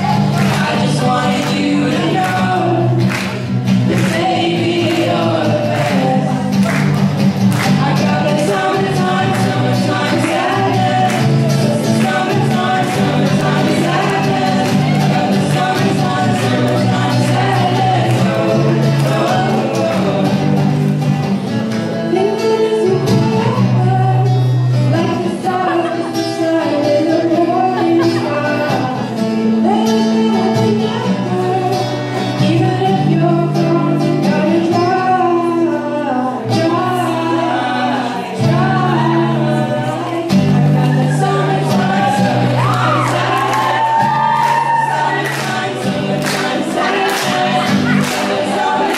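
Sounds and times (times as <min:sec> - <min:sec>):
strummed acoustic guitar: 0:00.0 - 0:48.9
young voices singing: 0:00.0 - 0:48.9.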